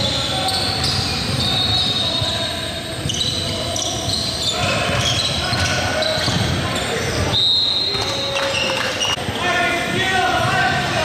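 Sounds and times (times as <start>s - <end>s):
sneakers squeaking on gym floor: 0.0s - 9.8s.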